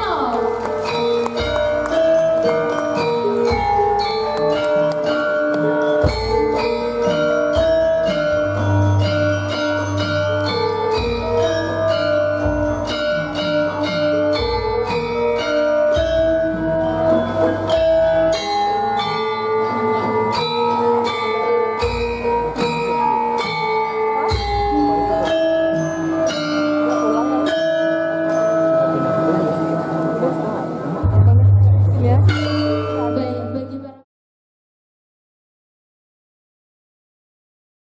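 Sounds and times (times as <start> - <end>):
gamelan ringing bronze notes: 0.0 - 31.2, 31.9 - 33.9.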